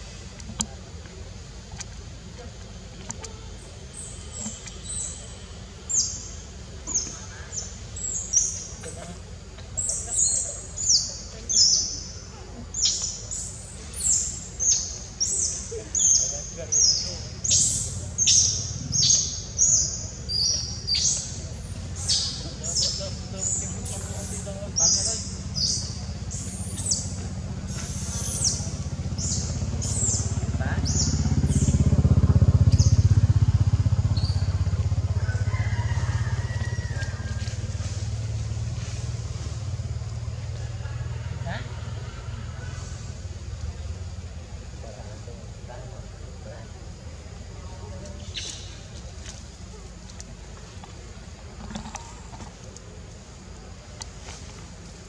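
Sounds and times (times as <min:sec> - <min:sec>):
vehicle engine pulsing drone: 0:00.0 - 0:55.0.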